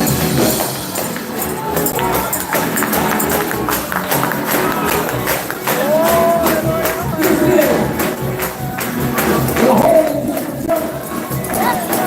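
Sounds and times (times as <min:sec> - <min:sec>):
tambourine beat: 0:00.0 - 0:12.0
voices singing: 0:00.0 - 0:12.0.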